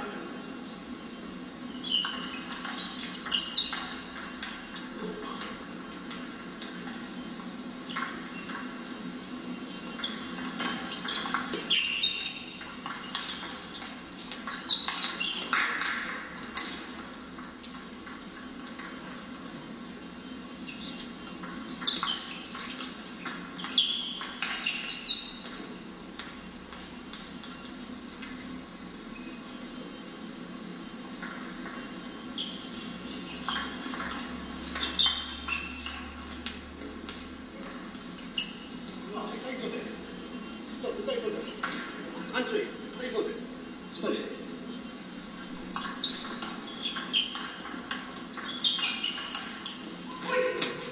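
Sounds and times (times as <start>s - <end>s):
sports shoes squeaking on floor: 0.8s - 50.9s.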